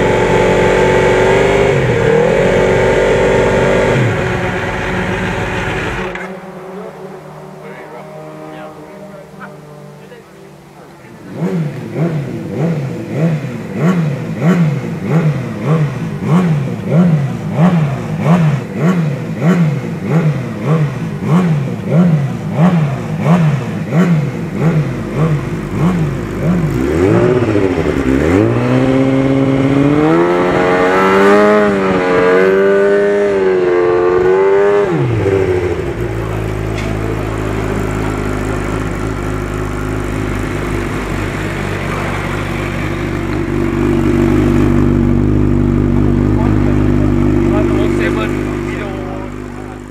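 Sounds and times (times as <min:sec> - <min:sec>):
engine revving: 0:00.0 - 0:49.9.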